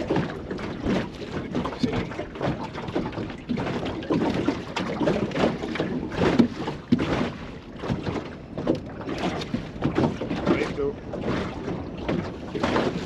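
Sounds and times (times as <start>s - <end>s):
water lapping at hull: 0.0s - 13.0s.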